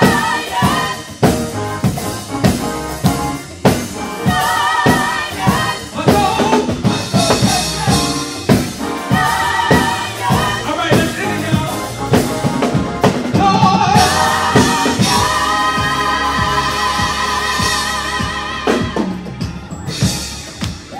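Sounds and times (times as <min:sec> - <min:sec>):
gospel singers: 0:00.0 - 0:20.1
drum kit beat: 0:00.0 - 0:20.9.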